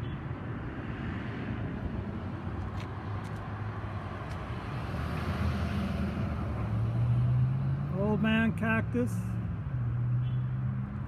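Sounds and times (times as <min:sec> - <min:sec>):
road traffic: 0:00.0 - 0:11.0
vehicle approaching: 0:00.5 - 0:11.0.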